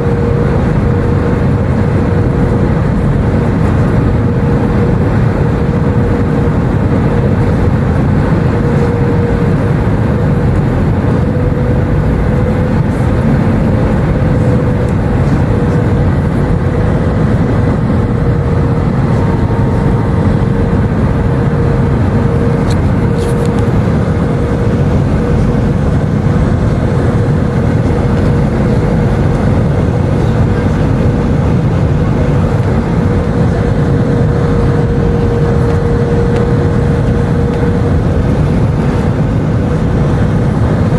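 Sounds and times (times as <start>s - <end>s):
airplane cabin engine and airflow noise: 0.0s - 40.9s
steady mid-pitched tone: 0.0s - 40.9s.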